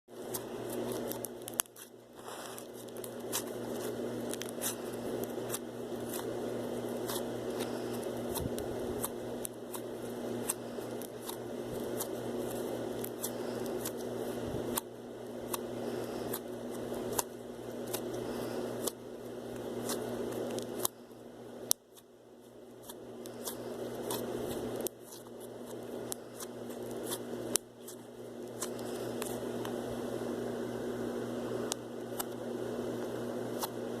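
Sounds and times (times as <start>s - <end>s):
slime squelching: 0.1s - 21.1s, 21.7s - 29.6s
steady low hum: 0.1s - 34.0s.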